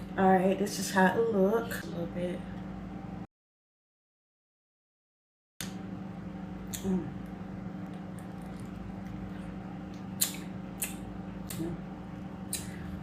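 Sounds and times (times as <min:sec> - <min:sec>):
low electrical hum: 0:00.0 - 0:03.3, 0:05.6 - 0:13.0.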